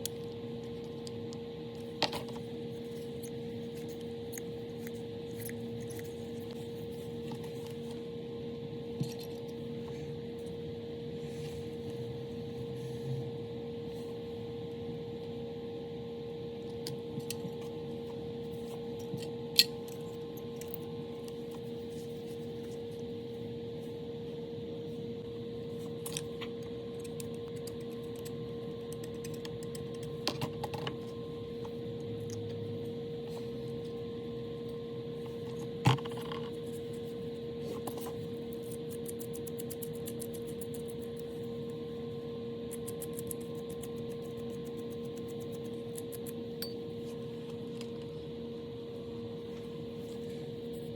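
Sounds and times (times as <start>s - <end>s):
electrical hum: 0.0s - 50.9s.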